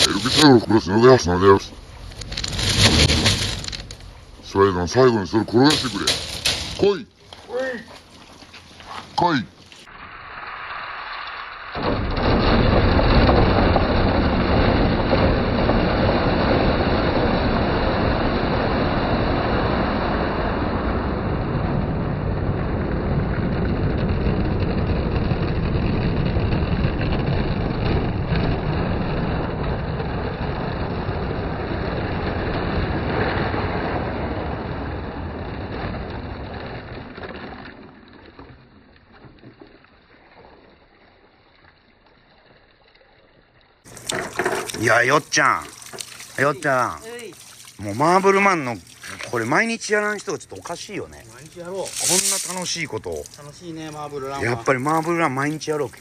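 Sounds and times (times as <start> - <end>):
water rushing down bamboo channels: 0.0 - 21.2, 22.8 - 56.0.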